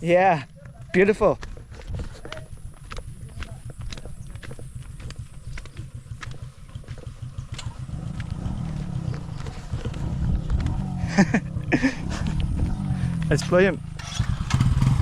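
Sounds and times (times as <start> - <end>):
motorbike engine running: 0.4 - 15.0.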